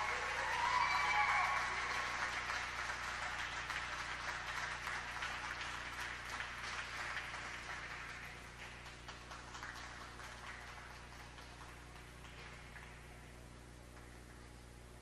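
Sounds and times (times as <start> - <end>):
audience applause: 0.0 - 13.1.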